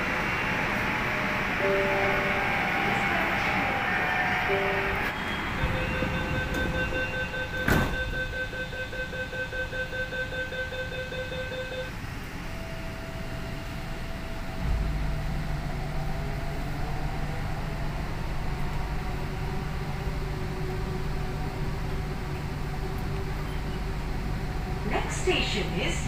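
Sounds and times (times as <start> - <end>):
faint motor whine: 0.0 - 26.0
train rumbling: 0.0 - 26.0.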